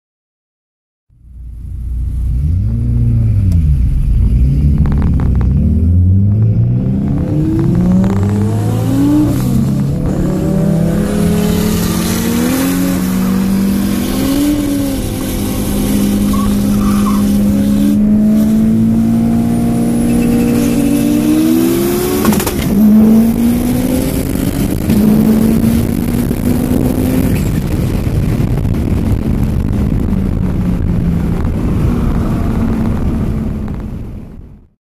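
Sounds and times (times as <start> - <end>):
car engine revving through gears: 2.1 - 33.8.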